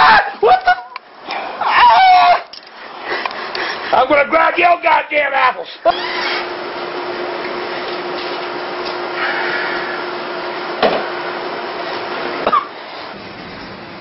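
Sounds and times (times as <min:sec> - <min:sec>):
whirring machine hum: 0:00.0 - 0:14.0.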